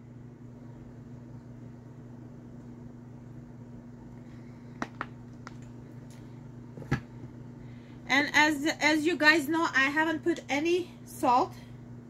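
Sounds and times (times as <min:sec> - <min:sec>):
microwave oven hum: 0:00.0 - 0:12.0.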